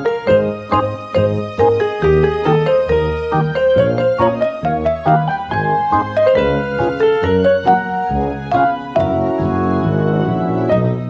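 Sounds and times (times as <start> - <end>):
keyboard melody with bass line: 0.0 - 11.0.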